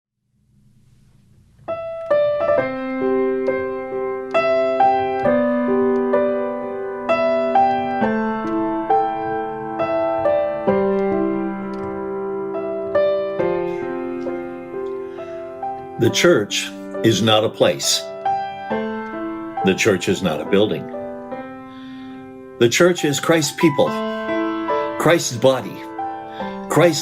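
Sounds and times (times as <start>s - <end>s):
gentle piano prelude: 0.5s - 27.0s.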